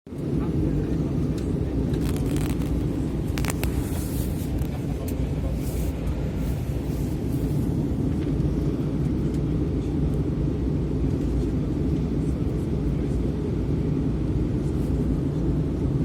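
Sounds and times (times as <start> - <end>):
airliner engine rumble in cabin: 0.1 - 16.0.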